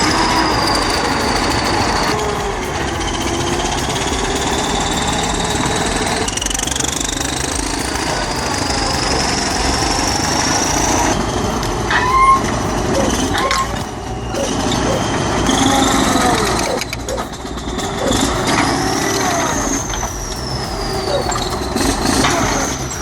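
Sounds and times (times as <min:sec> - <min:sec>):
high rising whine: 0:00.0 - 0:23.0.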